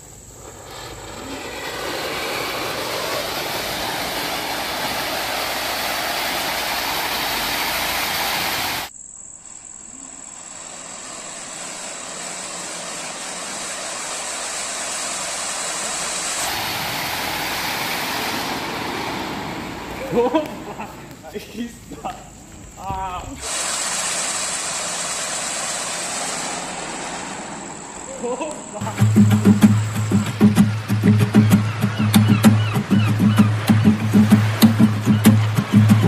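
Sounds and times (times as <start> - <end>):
fireworks hissing sparks: 0.0 - 36.0.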